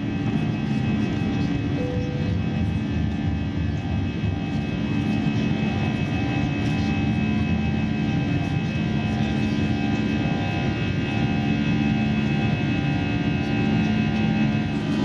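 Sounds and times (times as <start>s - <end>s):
jet engines roaring in cabin: 0.0s - 15.0s.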